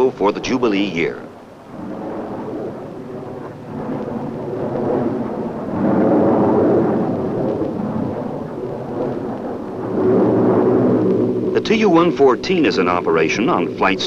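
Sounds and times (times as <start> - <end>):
jet airliner flying past: 0.0 - 14.0.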